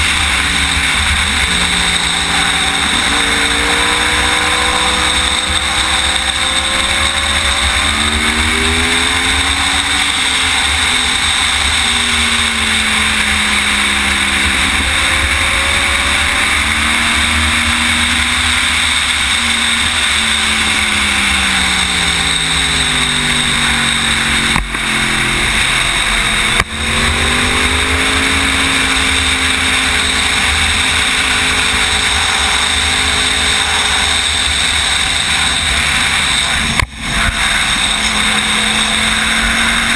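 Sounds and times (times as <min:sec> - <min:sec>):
motorcycle engine revving through shifts: 0:00.0 - 0:39.9.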